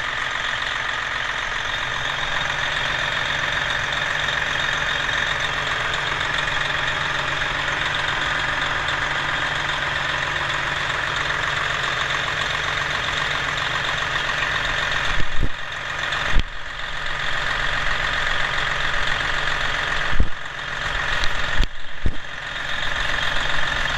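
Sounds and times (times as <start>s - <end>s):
diesel engine idling: 0.0s - 23.9s.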